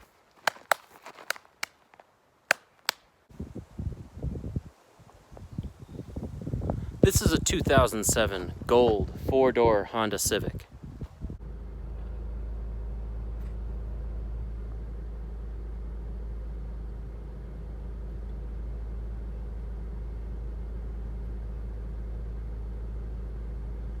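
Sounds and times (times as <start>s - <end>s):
car engine low rumble: 3.3s - 24.0s.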